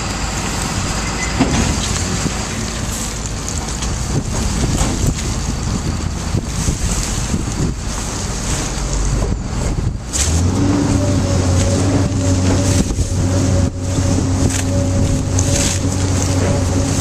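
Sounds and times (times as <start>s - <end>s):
baler motor humming: 0.0s - 17.0s
rushing wind-like noise: 0.0s - 17.0s.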